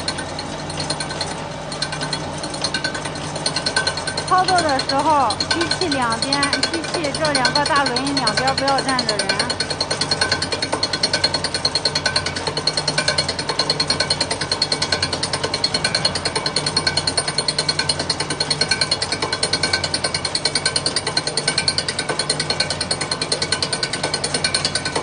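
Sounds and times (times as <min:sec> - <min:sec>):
grinding wheel rasping on blades: 0:00.0 - 0:25.0.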